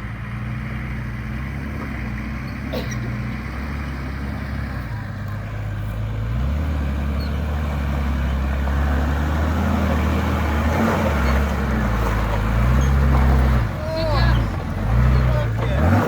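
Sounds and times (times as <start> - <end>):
off-road vehicle engine under load: 0.0 - 16.0.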